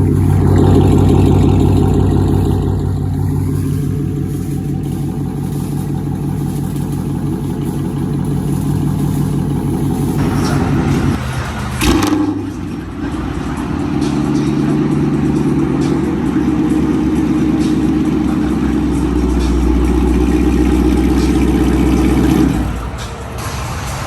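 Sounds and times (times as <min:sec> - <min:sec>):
car exhaust deep drone: 0:00.0 - 0:24.0.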